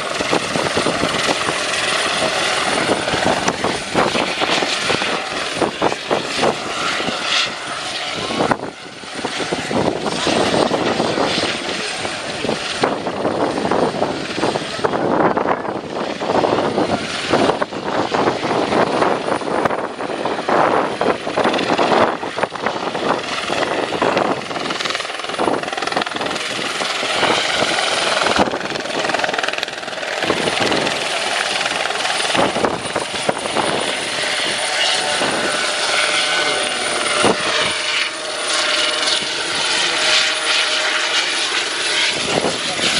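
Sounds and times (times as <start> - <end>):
helicopter rotor chopping: 0.0 - 42.9
high turbine whine: 0.0 - 42.9.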